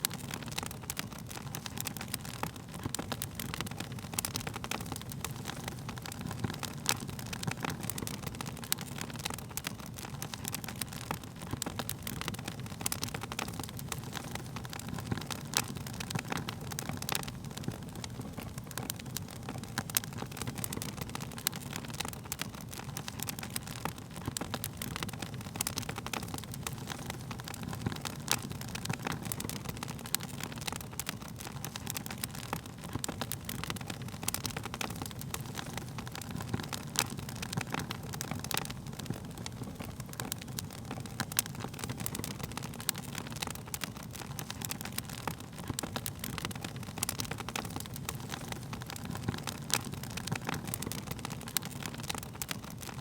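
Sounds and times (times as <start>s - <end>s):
burning wood crackling: 0.0s - 53.0s
low rumble of flames: 0.0s - 53.0s.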